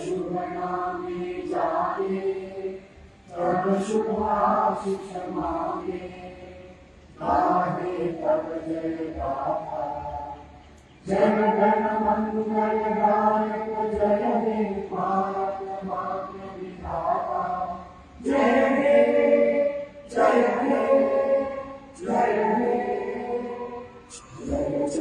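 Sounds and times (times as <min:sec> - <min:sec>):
group of voices singing: 0:00.0 - 0:25.0.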